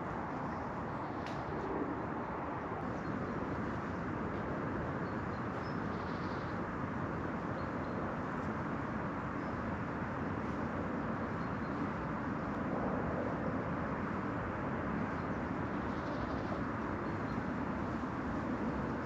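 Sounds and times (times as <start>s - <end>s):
steady rushing outdoor noise: 0.0s - 19.0s.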